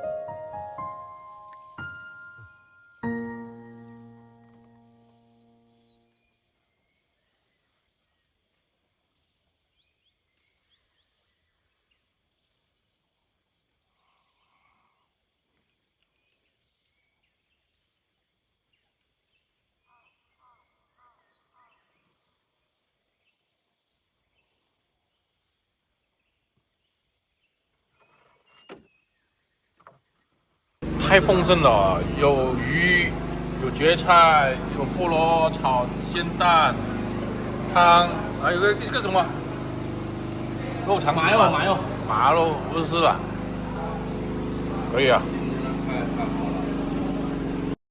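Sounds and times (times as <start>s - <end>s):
insect chirping calls: 0.0s - 46.1s
insects droning: 0.0s - 47.8s.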